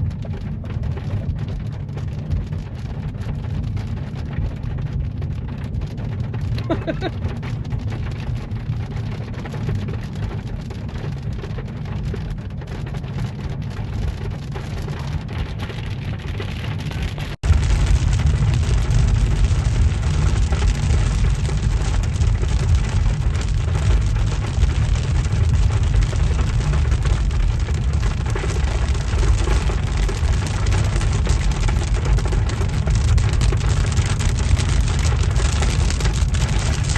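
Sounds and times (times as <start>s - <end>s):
heavy rain on street: 0.0s - 36.9s
steady low rumble: 0.0s - 36.9s.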